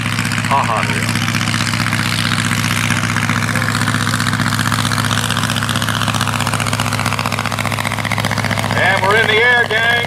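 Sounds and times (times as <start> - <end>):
airplane engine running: 0.0 - 10.0.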